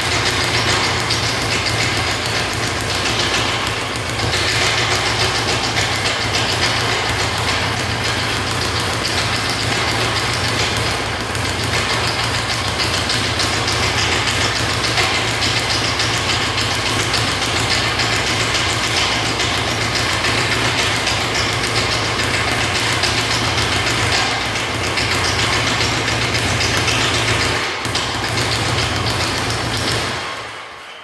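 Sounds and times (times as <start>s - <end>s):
speed bag rattling: 0.0s - 30.9s.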